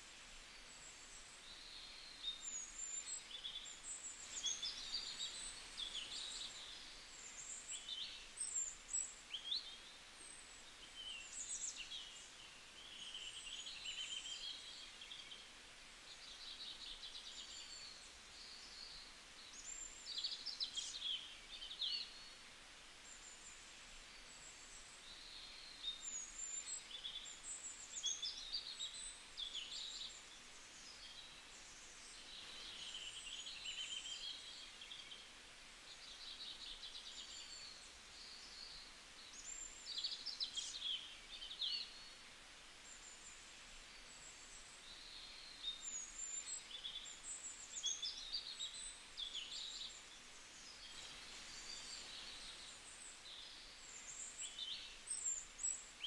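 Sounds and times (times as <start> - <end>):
low steady hiss: 0.0 - 56.0
small birds chirping: 0.0 - 56.0.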